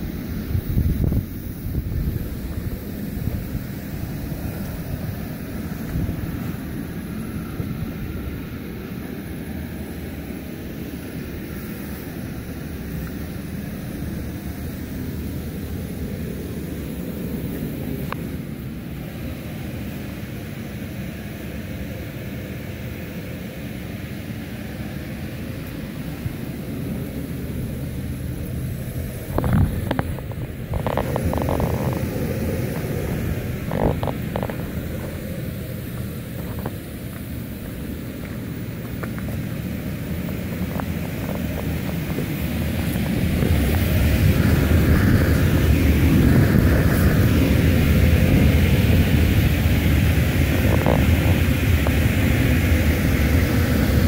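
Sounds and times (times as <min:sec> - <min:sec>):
electric blower fan rumbling: 0:00.0 - 0:54.0.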